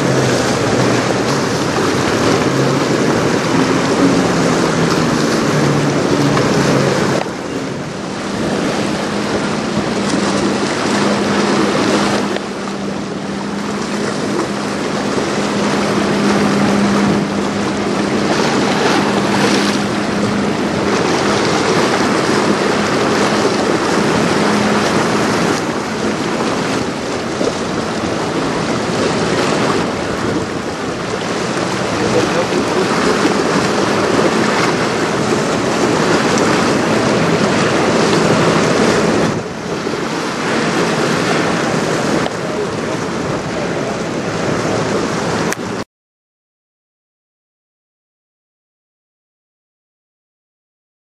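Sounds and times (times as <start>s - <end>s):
river water lapping: 0.0s - 45.8s
steady low drone: 0.0s - 45.8s
wind buffeting microphone: 0.0s - 45.8s.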